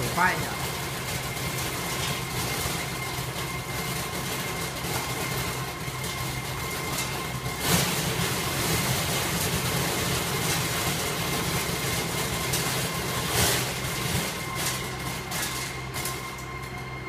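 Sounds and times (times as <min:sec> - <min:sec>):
sorting machine hum and whine: 0:00.0 - 0:17.0.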